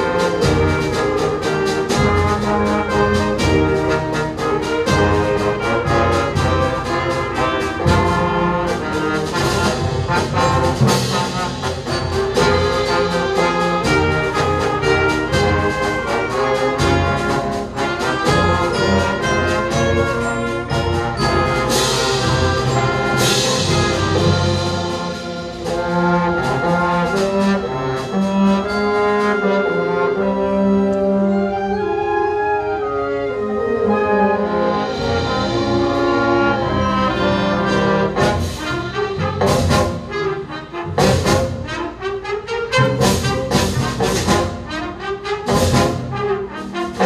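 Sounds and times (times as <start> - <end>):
concert band playing: 0.0 - 47.0.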